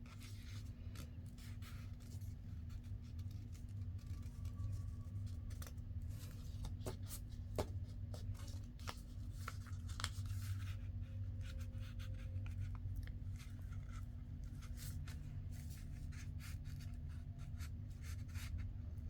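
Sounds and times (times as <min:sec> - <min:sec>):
paper rustling and scraping: 0:00.0 - 0:18.6
low steady hum: 0:00.0 - 0:19.0.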